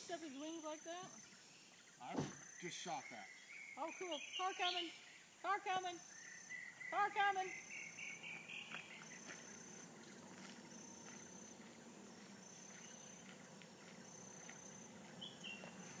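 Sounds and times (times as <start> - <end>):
insect chirring: 0.0 - 16.0.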